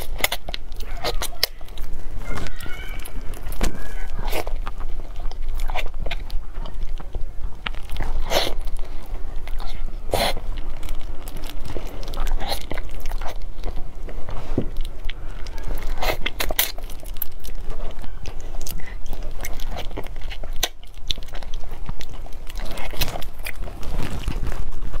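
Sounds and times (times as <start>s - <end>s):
person chewing soft food: 0.0s - 25.0s.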